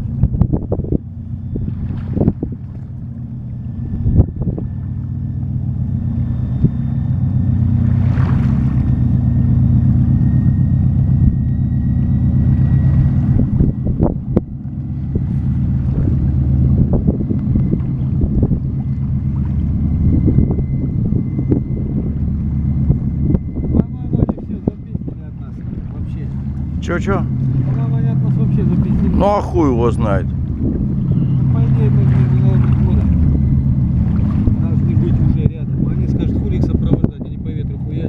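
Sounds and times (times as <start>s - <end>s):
boat engine droning: 0.0s - 38.0s
wind buffeting microphone: 0.0s - 38.0s.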